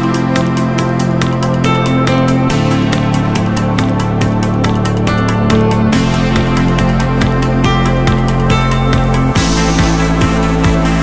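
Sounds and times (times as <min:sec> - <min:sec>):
electronic music with synth chords: 0:00.0 - 0:11.0.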